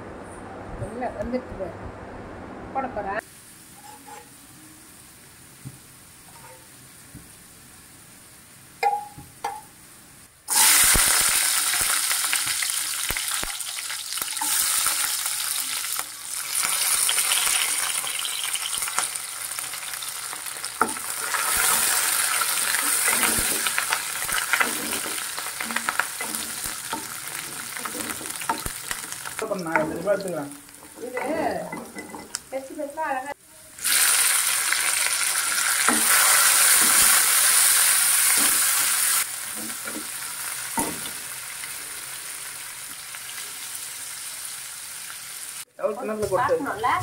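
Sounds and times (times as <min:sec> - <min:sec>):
garlic sizzling in hot oil: 0:03.2 - 0:47.0.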